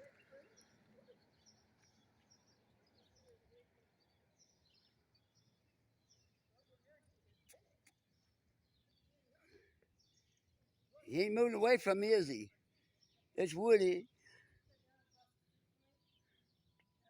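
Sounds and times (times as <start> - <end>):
faint small birds chirping: 0.0 - 17.0.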